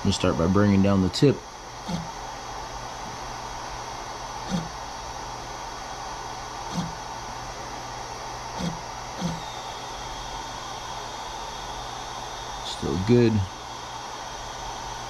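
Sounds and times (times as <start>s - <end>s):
motor buzzes: 0.0s - 15.0s
steady hiss: 0.0s - 15.0s.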